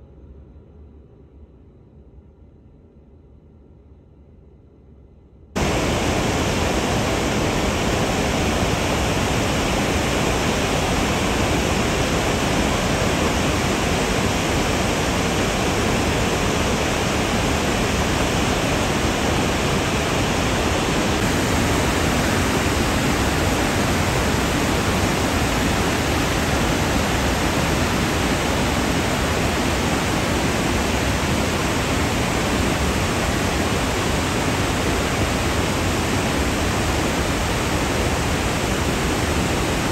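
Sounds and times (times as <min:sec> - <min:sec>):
river rushing through rapids: 0:05.6 - 0:39.9.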